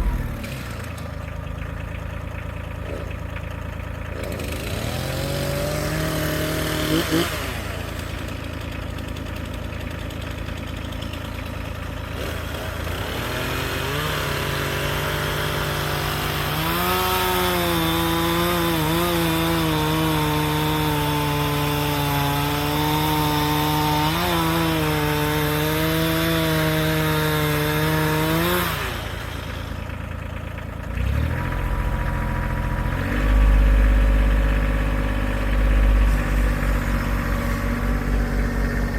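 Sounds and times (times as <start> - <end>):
chainsaw cutting log: 0.0 - 1.2, 2.8 - 3.4, 4.0 - 38.9
deep heavy engine running: 0.0 - 38.9.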